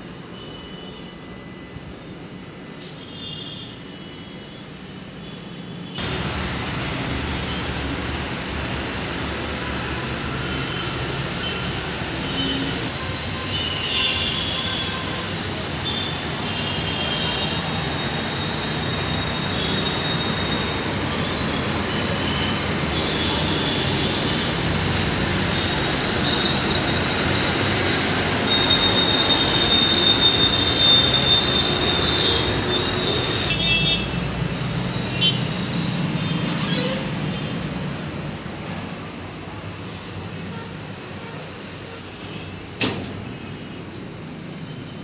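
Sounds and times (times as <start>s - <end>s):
road traffic noise: 0.0s - 45.0s.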